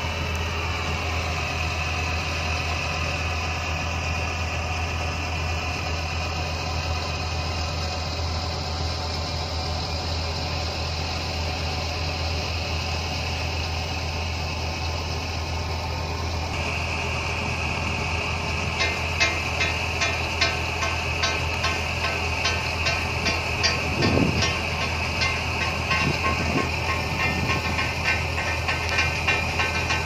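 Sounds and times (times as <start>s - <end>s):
boat engine droning: 0.0s - 30.0s
higher engine whine: 0.0s - 30.0s.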